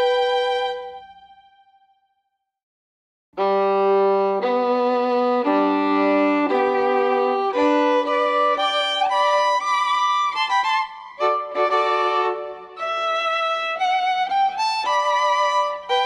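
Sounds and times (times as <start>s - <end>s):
violin playing: 0.0s - 1.8s, 3.4s - 16.0s.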